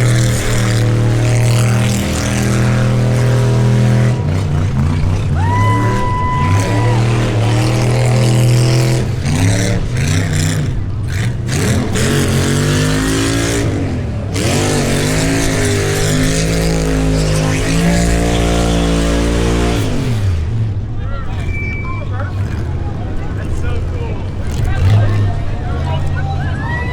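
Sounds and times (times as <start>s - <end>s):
engine revving hard: 0.0s - 26.9s.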